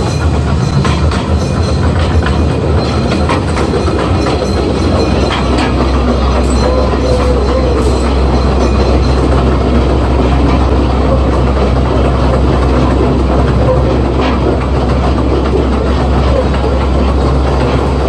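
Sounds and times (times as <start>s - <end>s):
train wheels and engine rumbling: 0.0s - 18.0s.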